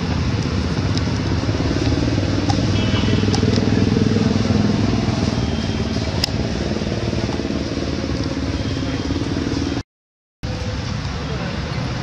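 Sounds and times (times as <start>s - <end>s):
engine running: 0.0s - 9.8s.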